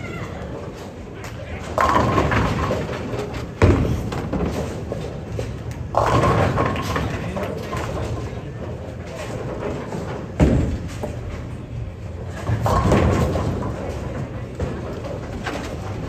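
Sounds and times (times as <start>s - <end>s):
bowling pins crashing: 1.6s - 11.4s, 12.2s - 16.0s.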